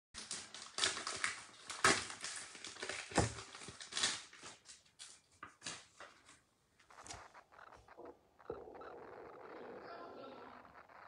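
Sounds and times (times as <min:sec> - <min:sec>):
crackling and rustling: 0:00.2 - 0:11.0.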